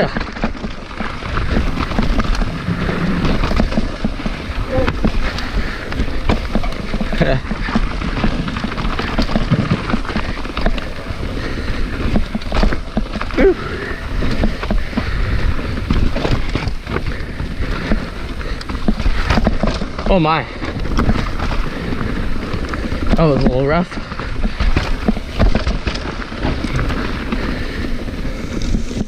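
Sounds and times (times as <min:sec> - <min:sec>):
bike knocking and rattling: 0:00.0 - 0:29.0
tyres rumbling over rocks: 0:00.0 - 0:29.0.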